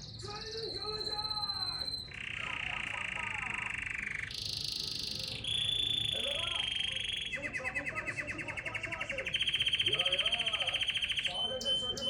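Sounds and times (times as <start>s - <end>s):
canary singing rolling trills: 0.0s - 12.0s.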